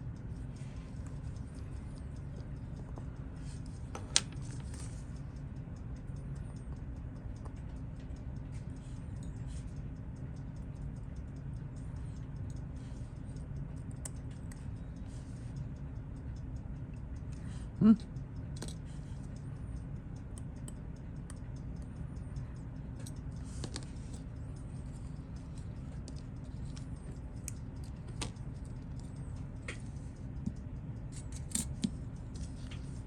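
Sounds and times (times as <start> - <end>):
mechanical watch ticking: 0.0 - 33.0
steady low hum: 0.0 - 33.0.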